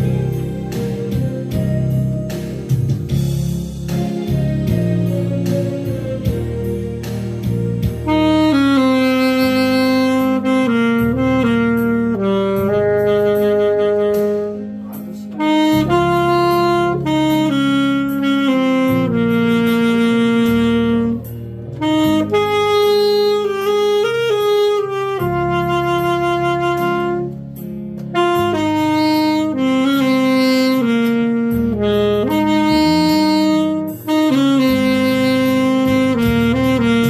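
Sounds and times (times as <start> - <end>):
backing track: 0.0 - 37.0
saxophone slow melody: 0.0 - 37.0.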